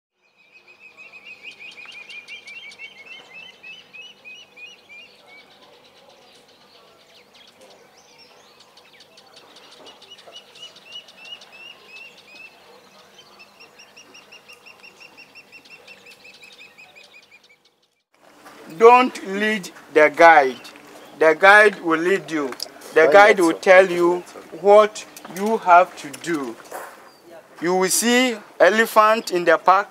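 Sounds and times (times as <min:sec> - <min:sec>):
birds calling rapid high notes: 0:00.4 - 0:18.0, 0:18.6 - 0:29.9.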